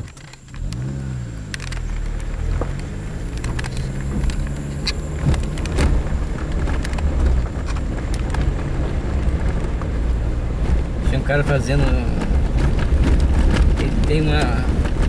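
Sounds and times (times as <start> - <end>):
car engine running: 0.0 - 15.0
knocks and rattles: 1.5 - 15.0.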